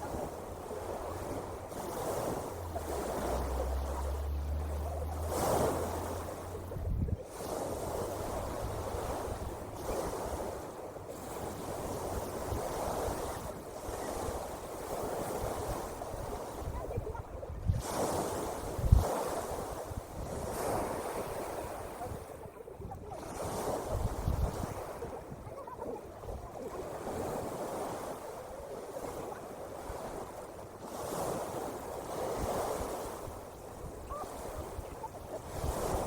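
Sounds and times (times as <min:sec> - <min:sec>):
ocean surf washing in: 0:00.0 - 0:36.0
wind buffeting microphone: 0:00.0 - 0:36.0.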